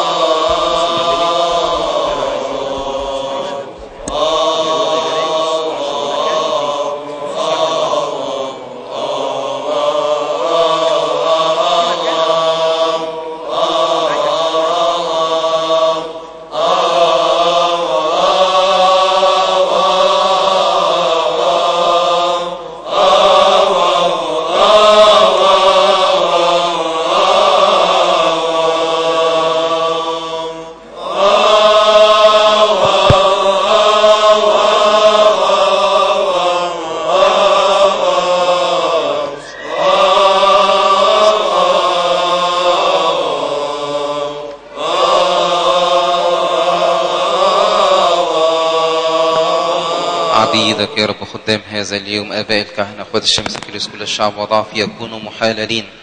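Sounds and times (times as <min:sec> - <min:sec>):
men chanting a hymn: 0:00.0 - 0:56.0.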